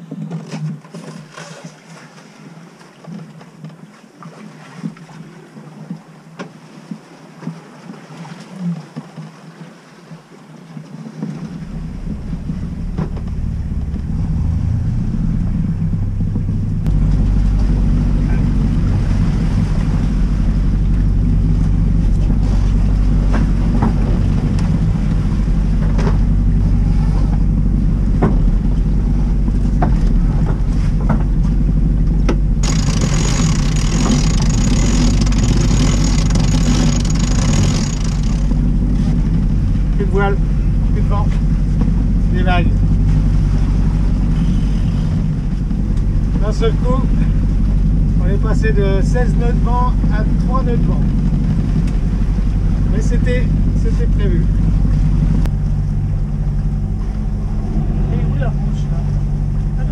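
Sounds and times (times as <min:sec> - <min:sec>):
sea wash: 0:00.0 - 0:59.9
wind: 0:00.0 - 0:59.9
boat engine starting and running: 0:11.0 - 0:59.9.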